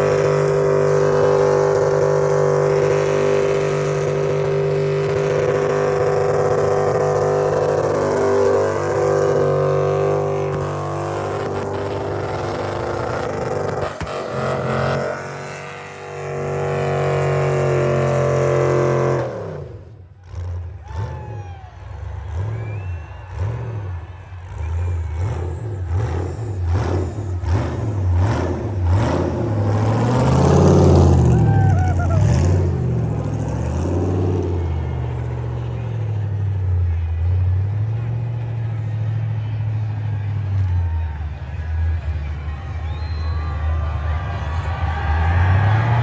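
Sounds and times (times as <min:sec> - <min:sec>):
engine revving hard: 0:00.0 - 0:40.3, 0:44.2 - 0:46.0.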